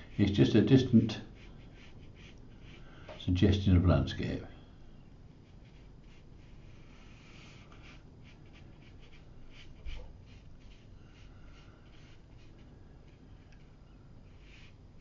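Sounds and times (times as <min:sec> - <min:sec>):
brush stroking paint onto paper: 0:00.0 - 0:03.2, 0:05.4 - 0:15.0.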